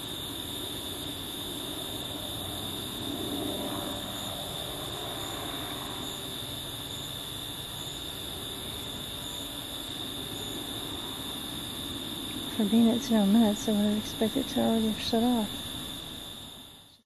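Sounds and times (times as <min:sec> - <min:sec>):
distant aircraft drone: 0:00.0 - 0:17.0
high-pitched whine: 0:00.0 - 0:17.0.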